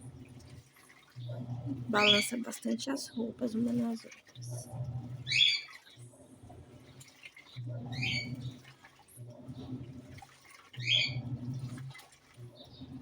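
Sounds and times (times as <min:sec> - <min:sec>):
washing machine motor hum: 0:00.0 - 0:13.0
water swishing: 0:00.0 - 0:13.0.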